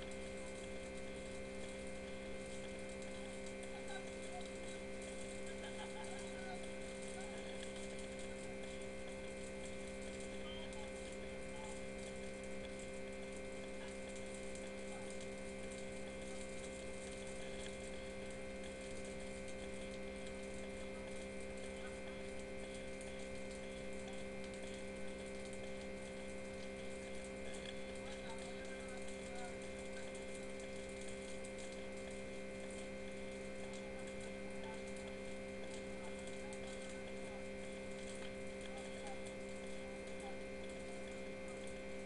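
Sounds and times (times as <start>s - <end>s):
steady hum of fixed tones: 0.0s - 42.0s.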